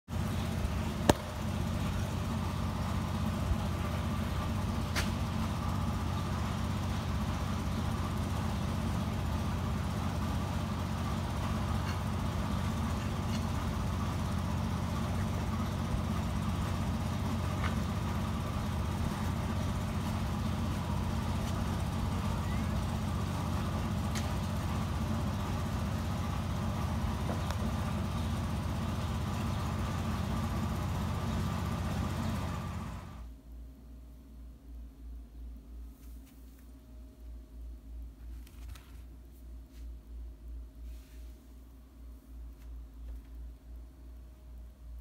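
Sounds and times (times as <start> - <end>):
low mechanical hum: 0.1 - 45.0.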